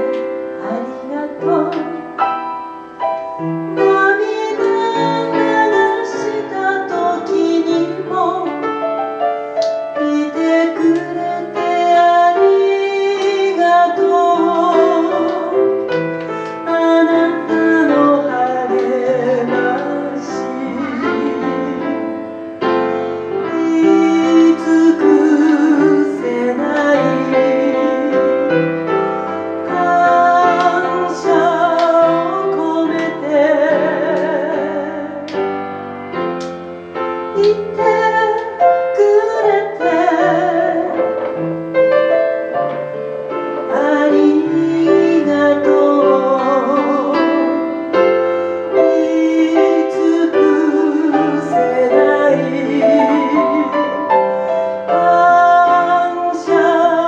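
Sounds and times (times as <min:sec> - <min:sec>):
woman singing with vibrato: 0:00.0 - 0:09.0, 0:09.9 - 0:35.6, 0:37.3 - 0:41.4, 0:43.6 - 0:57.0
piano accompaniment: 0:00.0 - 0:57.0.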